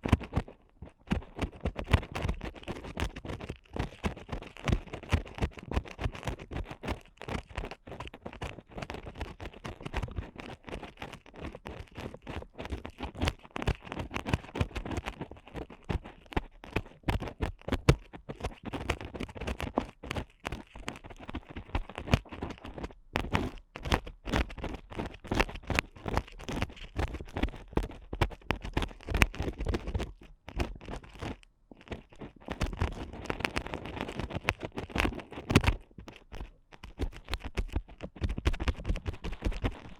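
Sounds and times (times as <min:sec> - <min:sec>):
ear pick scratching microphone: 0:00.0 - 0:39.9.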